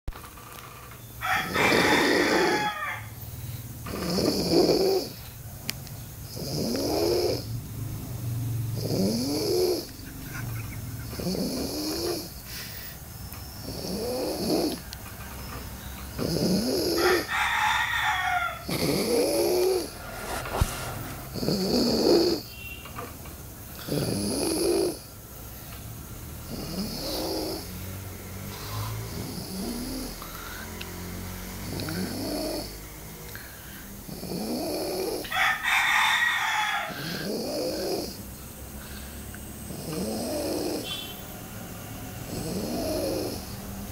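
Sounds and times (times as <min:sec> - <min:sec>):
loud rasping snoring: 0:01.2 - 0:05.3, 0:06.2 - 0:10.2, 0:11.0 - 0:13.0, 0:13.6 - 0:15.0, 0:15.8 - 0:22.6, 0:23.6 - 0:25.5, 0:26.2 - 0:35.4, 0:36.7 - 0:43.9.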